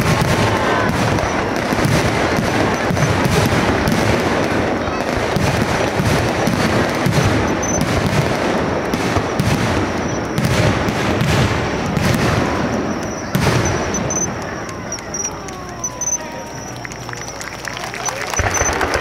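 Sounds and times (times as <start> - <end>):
firework shells bursting: 0.0 - 19.0.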